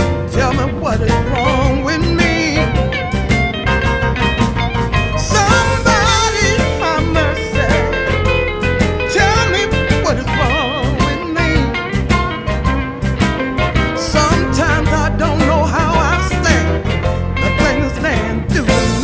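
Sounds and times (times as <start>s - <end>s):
bass and drum beat: 0.0s - 19.0s
blues guitar lead: 0.0s - 19.0s.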